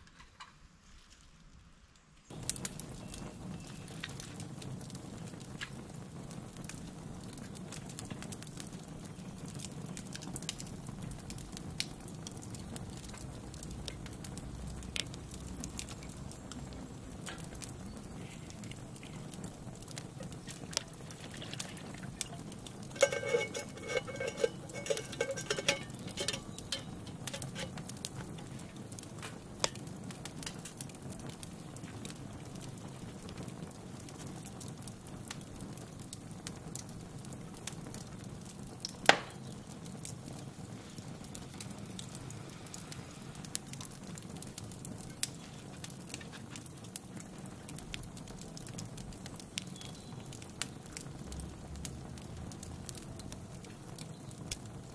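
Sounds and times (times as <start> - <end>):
campfire crackling and popping: 2.2 - 54.9.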